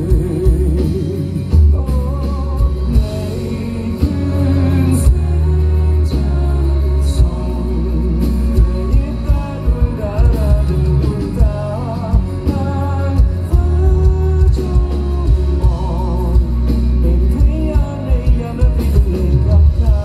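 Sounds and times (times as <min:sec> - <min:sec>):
live rock band: 0:00.0 - 0:20.0
man singing: 0:00.0 - 0:20.0.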